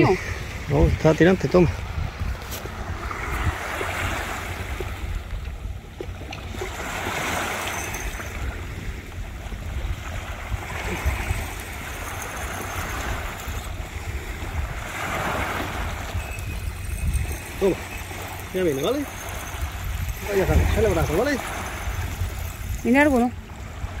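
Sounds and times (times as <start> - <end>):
waves breaking on a beach: 0.0 - 24.0
wind rumbling on microphone: 0.0 - 24.0.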